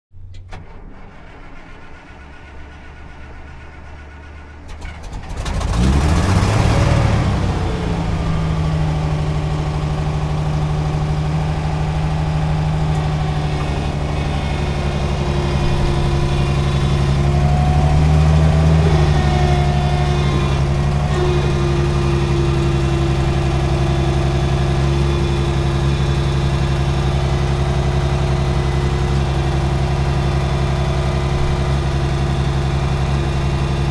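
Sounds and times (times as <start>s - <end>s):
motor starting and droning: 5.4s - 33.9s.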